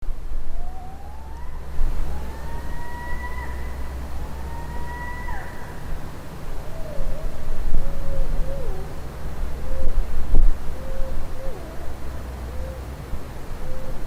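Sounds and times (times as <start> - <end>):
steady low hum: 0.0 - 14.0
animal wailing calls: 0.6 - 10.0, 10.7 - 12.9.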